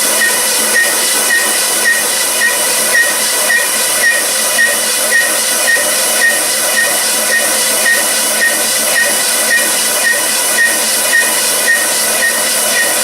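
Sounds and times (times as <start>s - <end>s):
machine running with hiss and tones: 0.0s - 13.0s
short high squeak: 0.1s - 13.0s.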